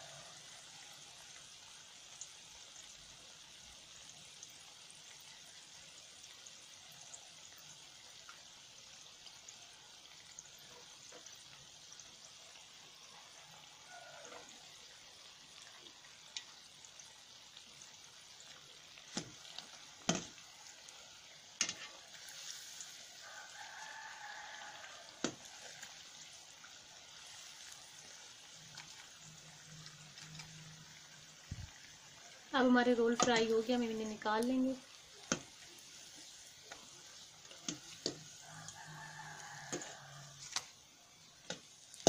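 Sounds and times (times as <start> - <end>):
food deep-frying in hot oil: 0.0 - 42.0.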